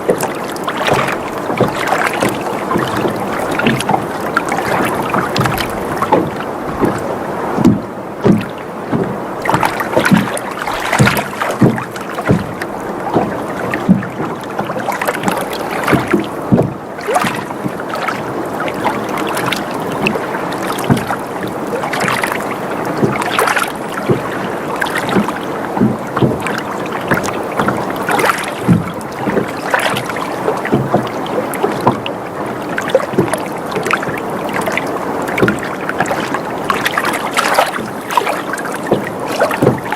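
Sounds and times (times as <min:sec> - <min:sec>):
boat creaking: 0:00.0 - 0:39.9
water lapping against hull: 0:00.0 - 0:39.9
water slaps and knocks: 0:00.0 - 0:39.9.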